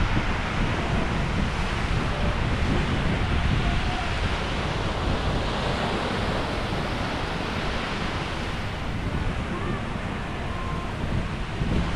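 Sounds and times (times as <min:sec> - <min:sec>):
sea waves on beach: 0:00.0 - 0:11.9
wind buffeting microphone: 0:00.0 - 0:11.9.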